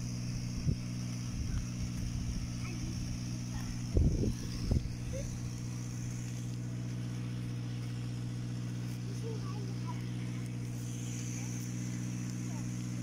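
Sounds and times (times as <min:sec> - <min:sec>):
motor droning: 0:00.0 - 0:13.0.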